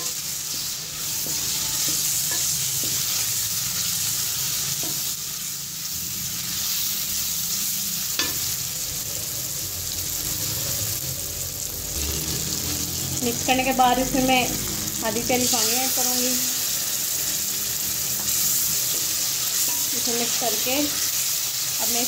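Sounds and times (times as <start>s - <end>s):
masala sizzling in oil: 0.0s - 22.0s.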